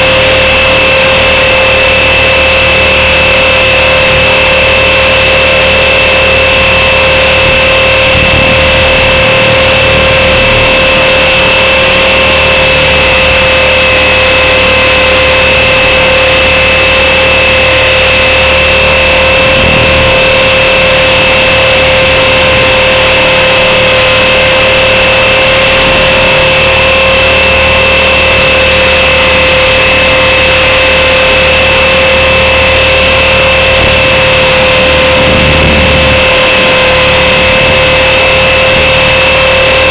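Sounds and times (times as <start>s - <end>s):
rc helicopter motor whine: 0.0s - 39.9s
rushing noise: 0.0s - 39.9s.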